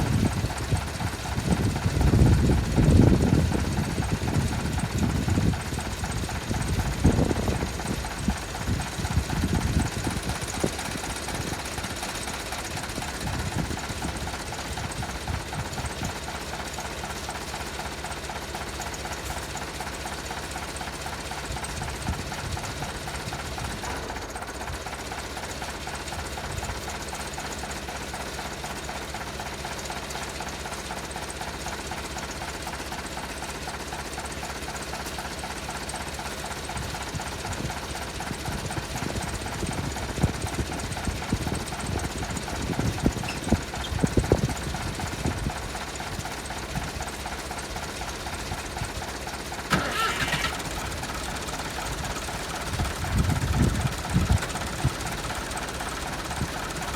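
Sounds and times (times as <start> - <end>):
tractor engine clattering: 0.0 - 56.9.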